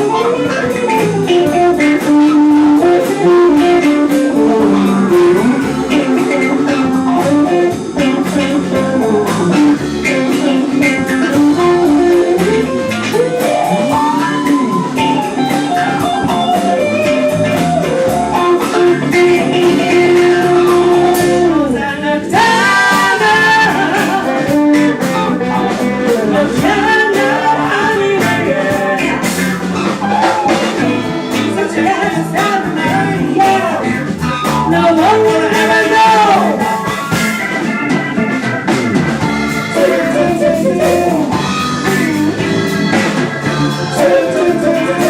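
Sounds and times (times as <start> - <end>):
blues band playing funk: 0.0 - 45.0.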